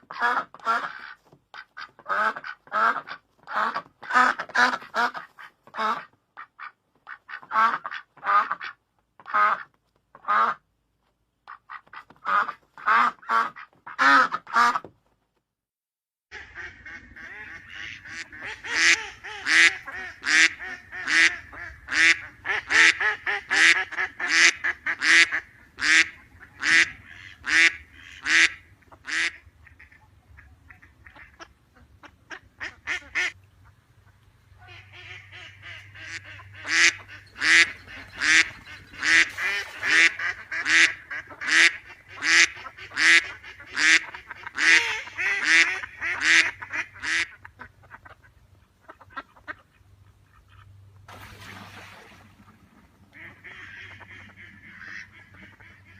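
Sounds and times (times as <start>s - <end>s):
ducks quacking: 0.0s - 10.6s, 11.5s - 14.9s, 16.3s - 51.0s, 52.4s - 55.9s.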